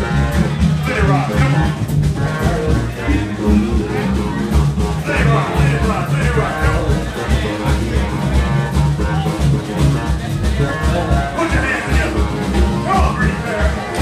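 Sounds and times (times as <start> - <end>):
guitar: 0.0 - 14.0
pulsing bass line: 0.0 - 14.0
steady beat: 0.0 - 14.0.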